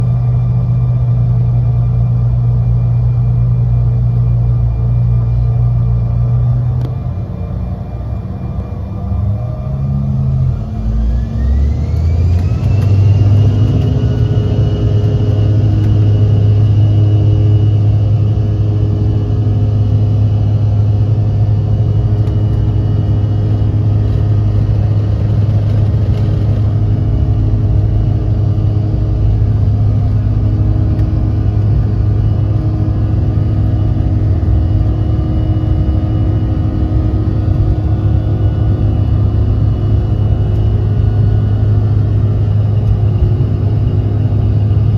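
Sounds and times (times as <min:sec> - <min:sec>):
deep continuous rumble: 0:00.0 - 0:44.9
jet engines whining: 0:00.0 - 0:44.9.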